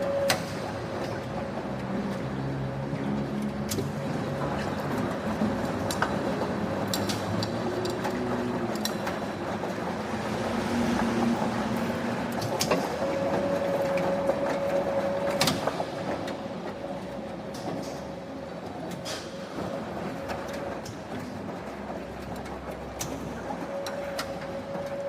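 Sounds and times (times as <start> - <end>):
factory machinery din: 0.0 - 25.0.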